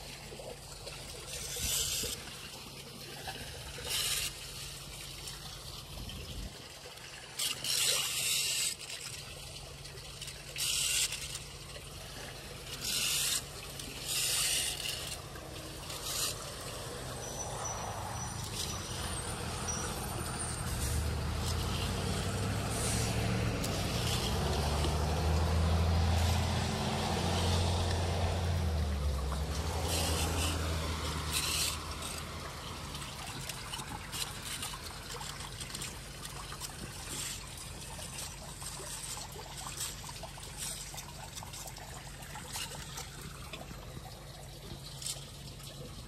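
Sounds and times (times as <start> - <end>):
running water: 0.0 - 46.0
vehicle engine hum: 0.0 - 46.0
rake scraping through wet leaves: 1.2 - 6.5, 7.2 - 43.7.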